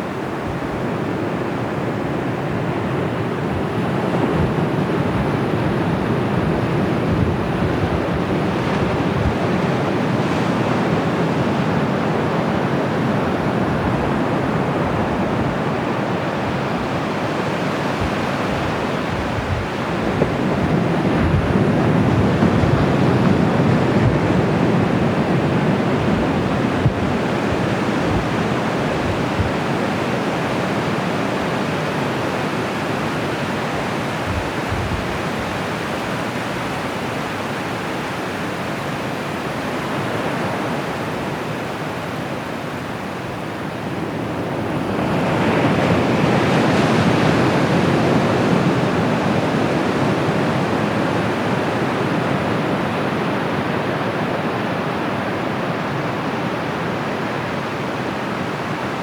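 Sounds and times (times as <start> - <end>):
ocean surf washing onto beach: 0.0 - 59.0.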